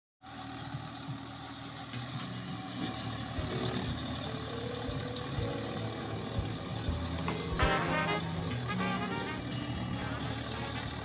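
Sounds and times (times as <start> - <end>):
tractor diesel engine running: 0.2 - 11.0.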